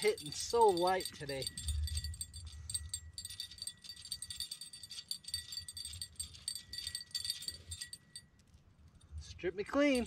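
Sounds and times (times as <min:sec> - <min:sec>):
light metallic jingling: 0:00.0 - 0:10.0.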